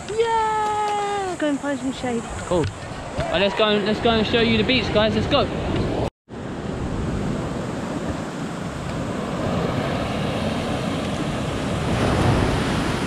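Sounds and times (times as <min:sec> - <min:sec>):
surf washing up beach: 0:01.9 - 0:13.0.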